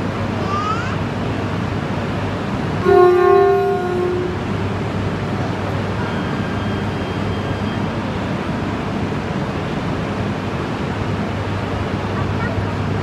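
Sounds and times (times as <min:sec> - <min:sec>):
train rumbling and hissing: 0:00.0 - 0:13.0.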